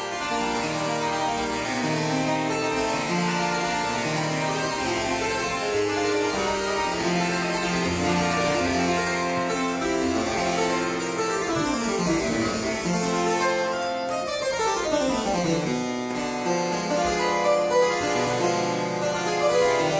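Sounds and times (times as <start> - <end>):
harpsichord playing: 0.0 - 19.9.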